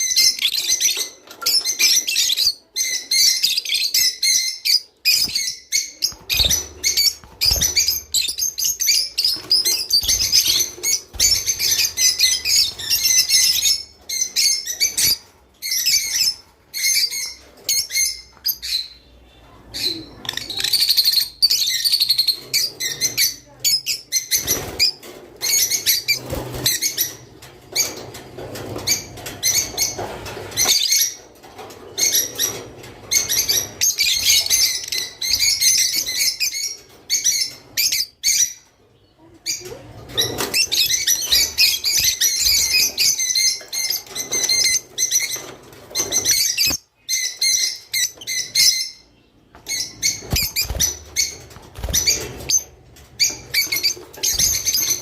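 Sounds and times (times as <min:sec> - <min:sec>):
lovebirds chattering and chirping: 0:00.0 - 0:55.0.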